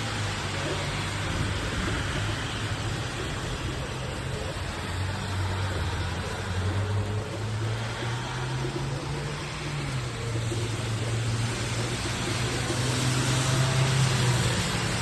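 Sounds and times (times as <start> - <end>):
rain hiss: 0.0 - 15.0
wind: 0.0 - 15.0.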